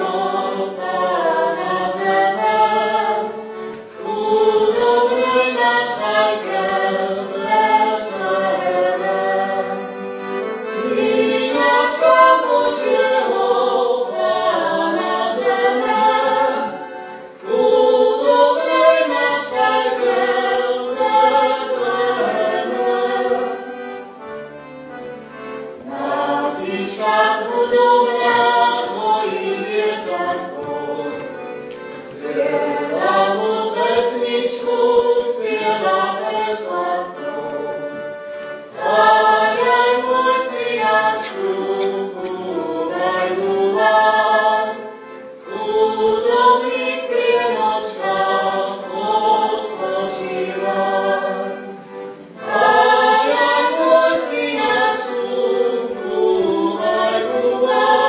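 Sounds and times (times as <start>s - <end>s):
small choir singing slowly: 0.0s - 58.0s.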